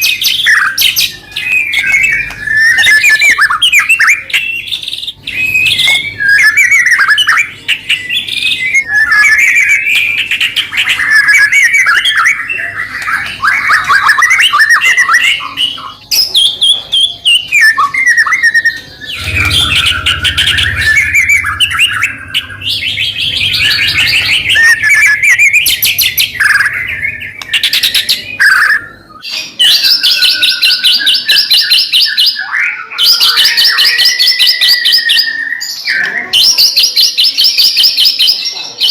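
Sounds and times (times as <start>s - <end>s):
bird singing trills and whistles: 0.0s - 38.9s.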